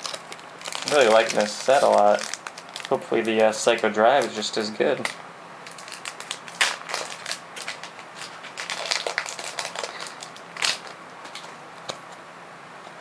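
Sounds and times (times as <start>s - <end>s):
foil wrapper crinkling and tearing: 0.0s - 4.4s, 5.0s - 11.5s.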